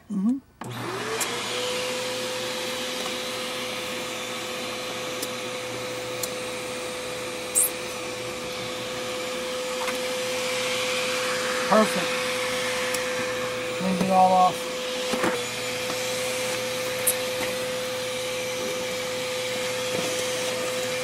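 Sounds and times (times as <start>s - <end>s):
vacuum cleaner running: 0.6s - 21.0s.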